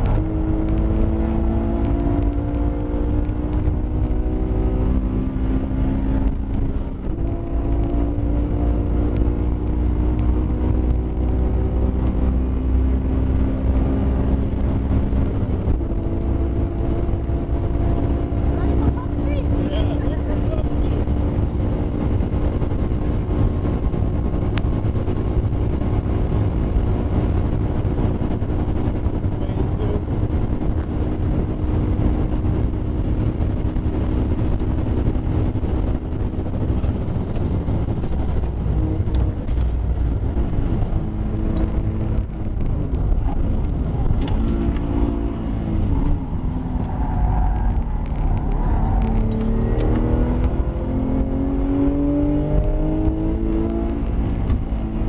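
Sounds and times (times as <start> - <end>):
car engine at high revs: 0.0 - 55.0
wind and road noise: 0.0 - 55.0.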